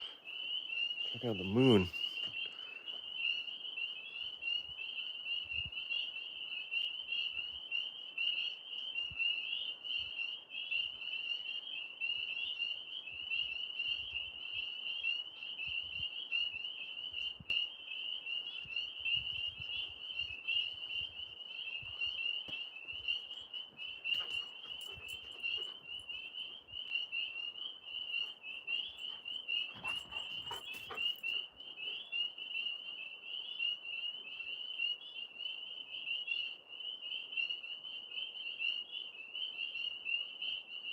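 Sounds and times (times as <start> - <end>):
tree frogs chorus: 0.0 - 40.9.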